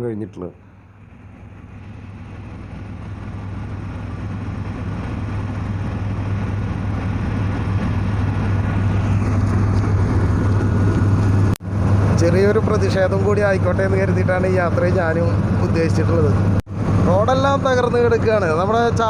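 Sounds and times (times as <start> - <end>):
helicopter engine and rotor: 0.7 - 19.0.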